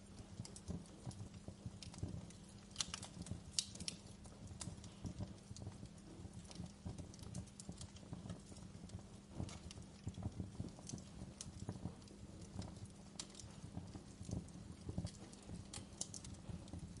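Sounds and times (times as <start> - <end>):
logs crackling and popping: 0.0 - 17.0
low steady rumble: 0.0 - 17.0.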